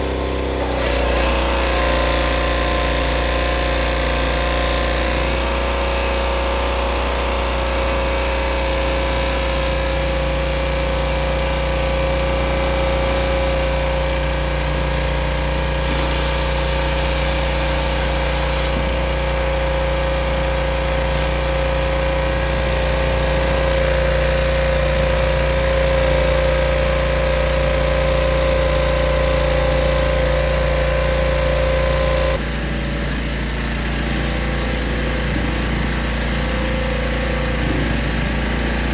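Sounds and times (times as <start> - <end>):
constant whine: 0.0 - 38.9
pressure washer engine running: 0.0 - 38.9.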